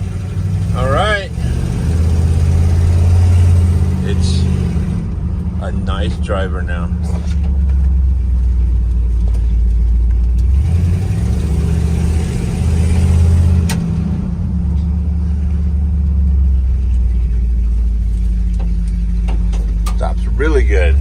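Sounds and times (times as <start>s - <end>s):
pickup truck engine droning: 0.0s - 21.0s.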